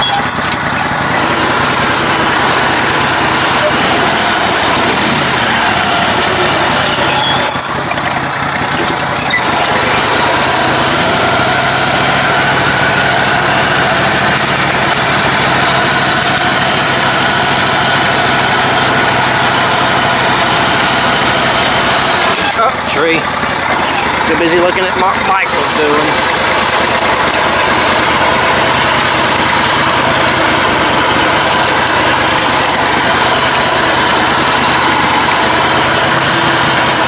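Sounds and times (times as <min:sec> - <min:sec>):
riding lawn mower engine: 0:00.0 - 0:37.0.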